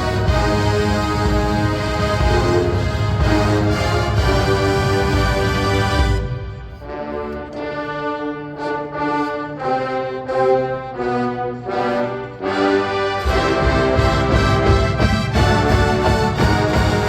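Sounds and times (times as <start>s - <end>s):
brass playing held chords: 0.0s - 17.0s
marching band playing: 0.0s - 17.0s.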